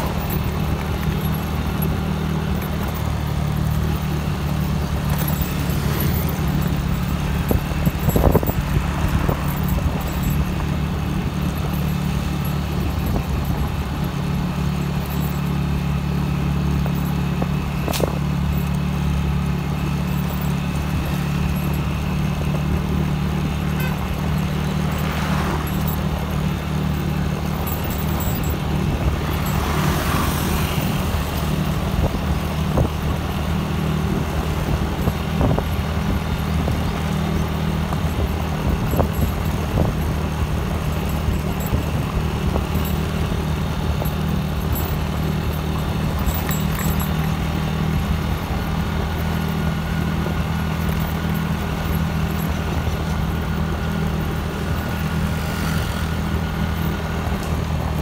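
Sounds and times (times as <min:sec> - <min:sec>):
road and wind noise: 0:00.0 - 0:58.0
vehicle engine hum: 0:00.0 - 0:58.0.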